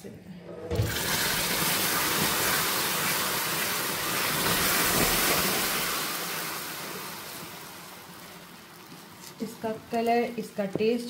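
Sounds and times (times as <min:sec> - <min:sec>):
hot sugar sizzling in milk: 0:00.9 - 0:11.0.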